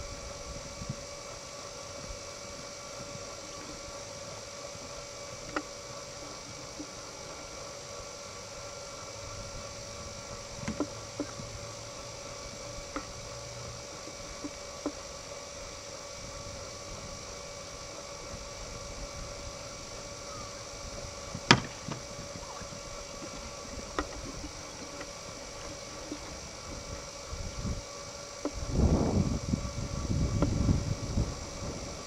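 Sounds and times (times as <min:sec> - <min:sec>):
background hum and hiss: 0:00.0 - 0:32.0.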